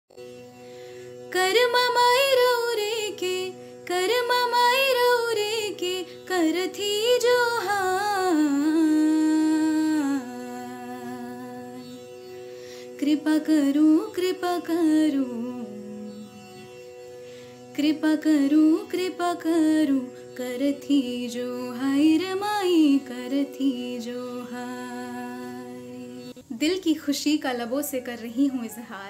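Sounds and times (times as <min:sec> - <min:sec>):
woman singing: 0:01.3 - 0:12.1, 0:12.8 - 0:16.7, 0:17.7 - 0:29.0.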